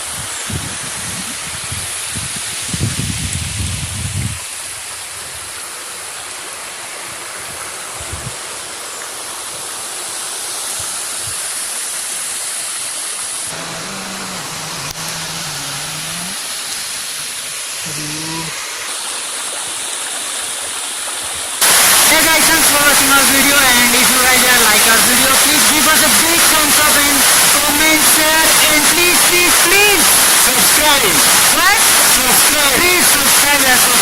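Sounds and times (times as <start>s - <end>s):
waterfall rushing: 4.6s - 34.0s.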